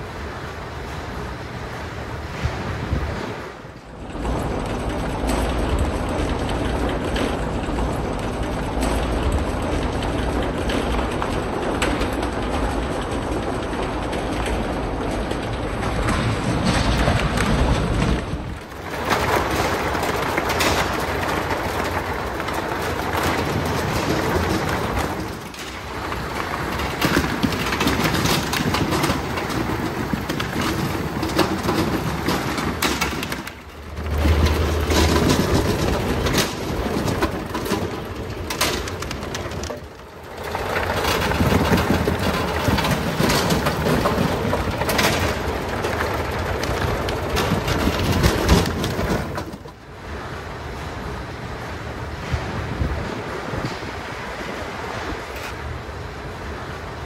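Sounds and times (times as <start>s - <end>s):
machinery running: 3.7s - 57.0s
potatoes rattling on conveyor: 3.9s - 57.0s.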